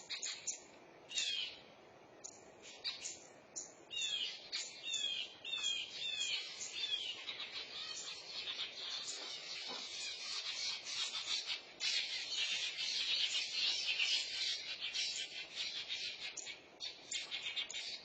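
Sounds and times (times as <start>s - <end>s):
birds and insects chirping: 0.0s - 18.0s.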